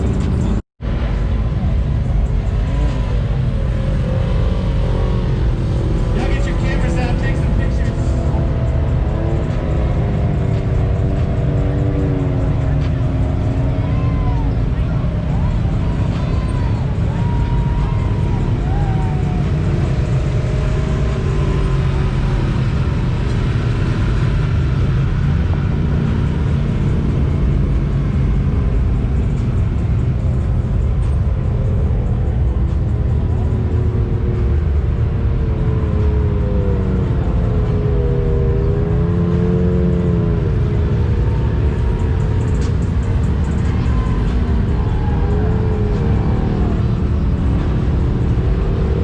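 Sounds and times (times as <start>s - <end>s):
atv engine revving: 2.3s - 49.0s.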